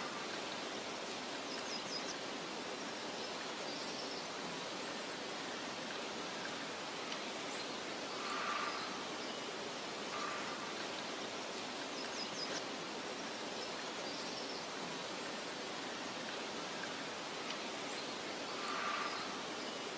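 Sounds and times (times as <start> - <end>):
outdoor meadow hiss: 0.0 - 19.9.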